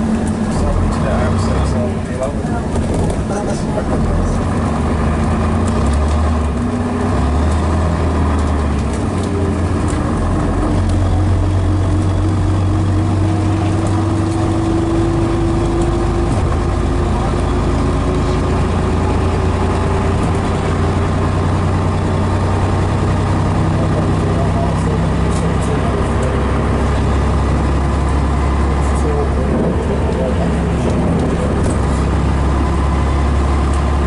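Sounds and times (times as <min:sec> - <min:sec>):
diesel bus engine running: 0:00.0 - 0:34.0
engine whine: 0:00.0 - 0:34.0.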